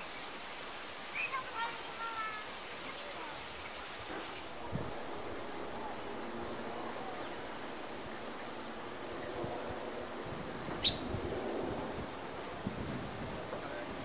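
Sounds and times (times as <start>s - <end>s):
faint high insect-like tones: 0.0s - 13.9s
wind through tall grass: 0.0s - 14.0s.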